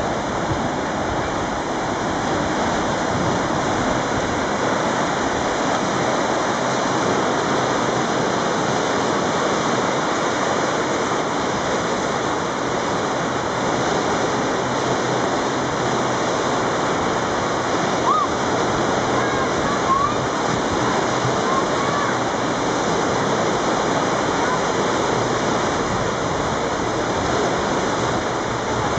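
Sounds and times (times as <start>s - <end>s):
floodwater rushing over rapids: 0.0s - 28.9s.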